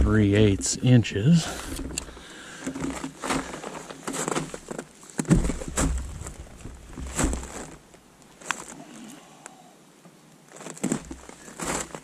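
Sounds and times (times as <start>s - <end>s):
rustling: 1.4s - 9.6s, 10.4s - 12.0s.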